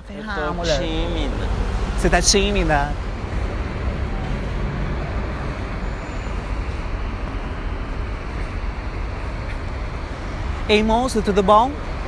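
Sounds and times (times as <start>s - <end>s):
bus driving past: 0.0s - 12.0s
cars driving past: 0.0s - 12.0s.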